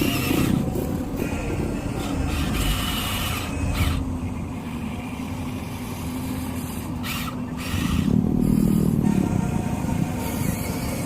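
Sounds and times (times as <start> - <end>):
toy truck motor hum: 0.0 - 11.0.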